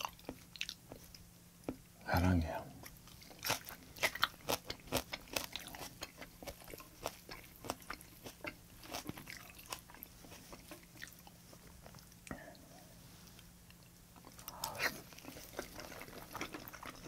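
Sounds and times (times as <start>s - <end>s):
person chewing crunchy food: 0.0s - 1.8s, 2.8s - 12.3s, 13.6s - 17.0s.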